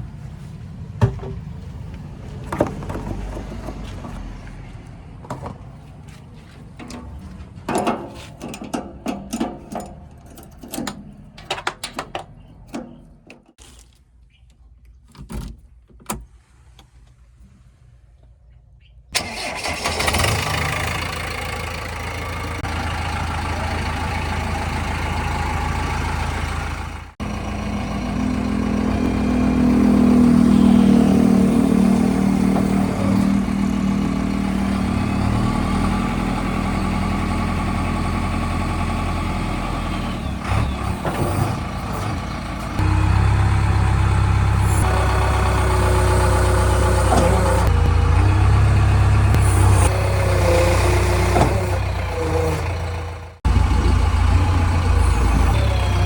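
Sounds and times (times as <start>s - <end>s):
diesel engine starting and running: 0.0s - 13.6s, 19.1s - 56.0s.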